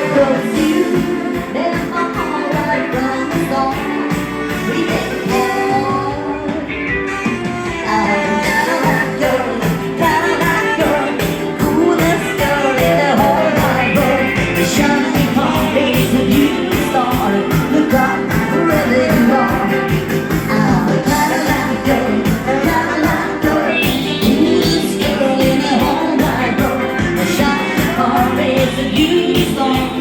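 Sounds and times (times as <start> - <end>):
upbeat rock and roll music: 0.0 - 30.0.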